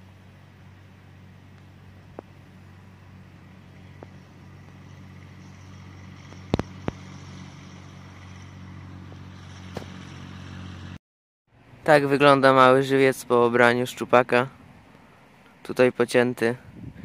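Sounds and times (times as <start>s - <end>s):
distant low mechanical hum: 0.0s - 16.1s.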